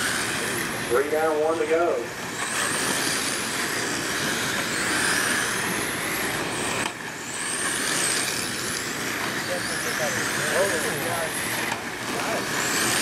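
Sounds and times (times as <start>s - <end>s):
electric motor whine of rc cars: 0.0s - 13.0s.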